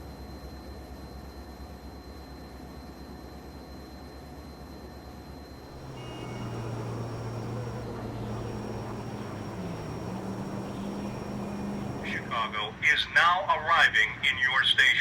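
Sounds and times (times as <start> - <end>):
train engine drone: 0.0 - 15.0.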